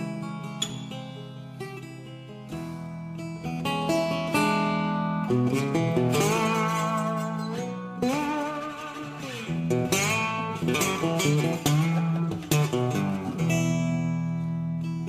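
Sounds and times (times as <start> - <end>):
plucked guitar with bending notes: 0.0 - 15.0.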